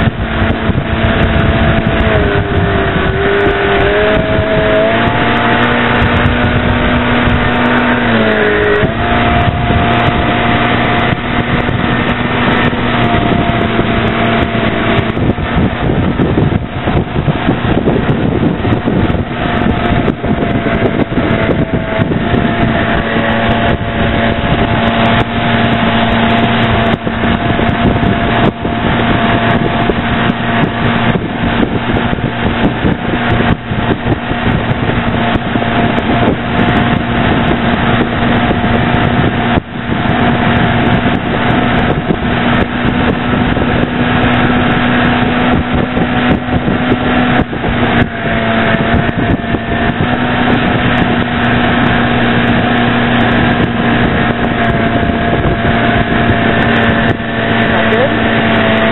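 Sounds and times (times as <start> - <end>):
boat engine drone: 0.0 - 58.9
wind buffeting microphone: 0.0 - 58.9.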